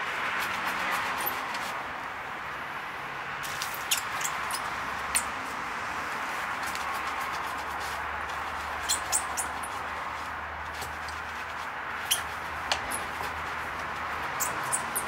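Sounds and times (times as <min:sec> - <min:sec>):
brush scrubbing wheel: 0:00.0 - 0:02.0, 0:03.4 - 0:15.0
brush squeaks and clicks: 0:00.2 - 0:01.9, 0:03.4 - 0:05.5, 0:06.2 - 0:15.0.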